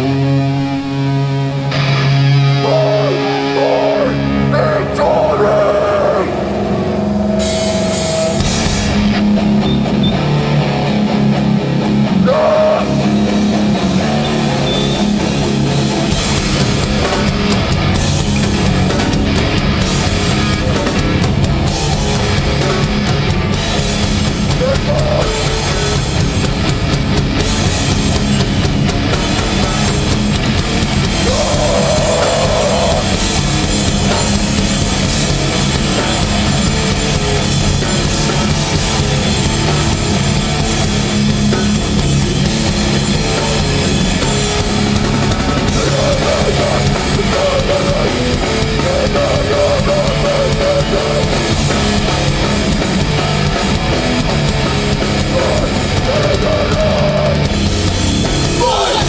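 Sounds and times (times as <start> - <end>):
guitars: 0.0 - 59.0
hardcore band playing live: 0.0 - 59.0
driving drum kit: 4.2 - 59.0.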